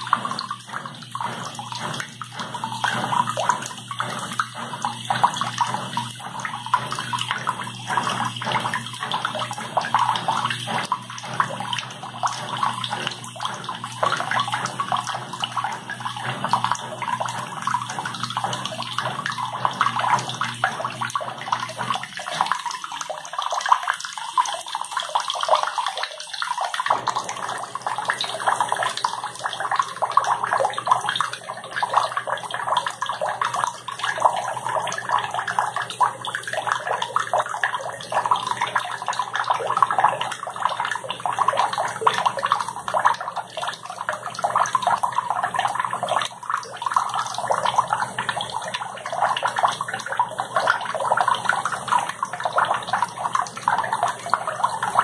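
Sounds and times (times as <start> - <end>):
tap water running into basin: 0.0 - 55.0.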